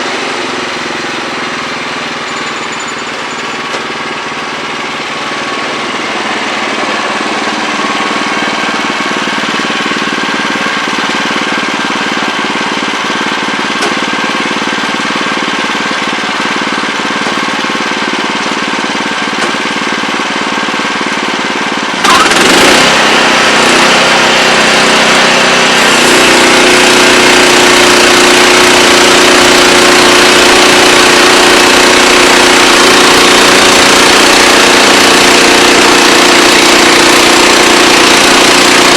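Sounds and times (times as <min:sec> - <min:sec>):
sawmill running: 0:00.0 - 0:38.9.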